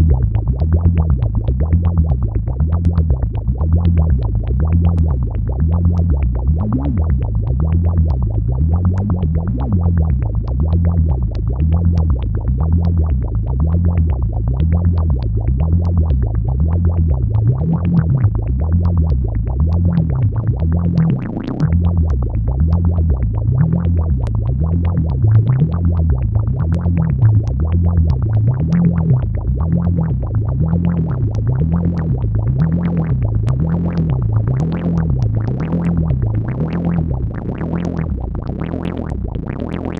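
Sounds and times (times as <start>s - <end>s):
synthesizer bass pattern: 0.0s - 39.9s.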